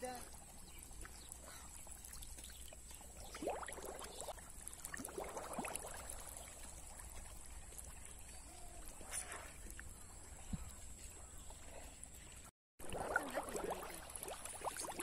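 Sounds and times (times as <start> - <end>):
shallow water sloshing: 0.0 - 15.0.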